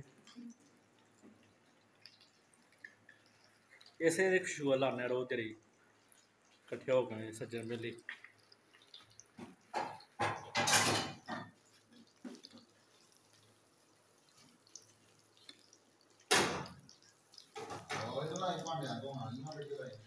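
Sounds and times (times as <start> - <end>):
oil sizzling and spitting: 0.0 - 20.0.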